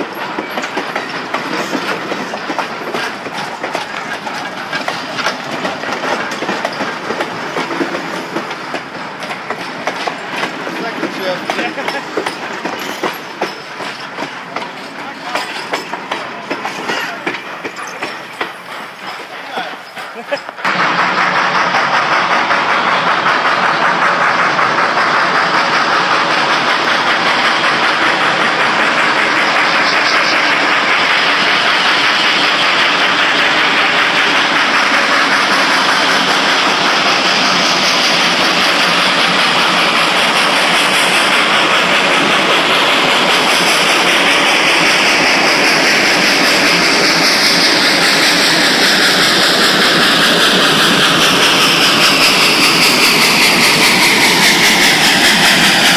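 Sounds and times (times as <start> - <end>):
steam locomotive running: 0.0 - 55.9.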